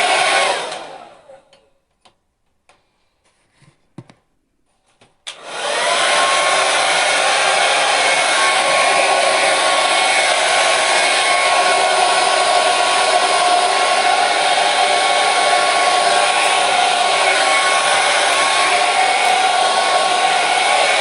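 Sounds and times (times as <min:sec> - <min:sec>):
hair dryer motor whine: 0:00.0 - 0:01.4, 0:05.3 - 0:21.0
hair dryer rushing air: 0:00.0 - 0:01.4, 0:05.3 - 0:21.0.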